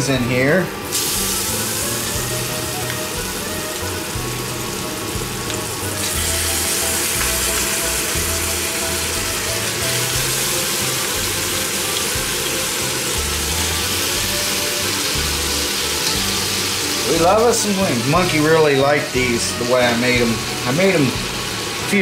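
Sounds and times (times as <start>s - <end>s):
chicken wings sizzling in oil: 0.8s - 22.0s.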